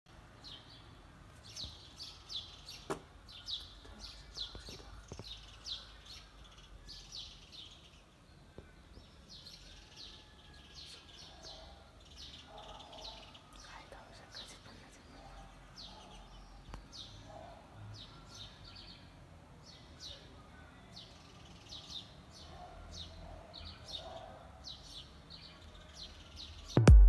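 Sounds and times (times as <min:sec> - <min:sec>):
small birds chirping: 0:00.1 - 0:26.9.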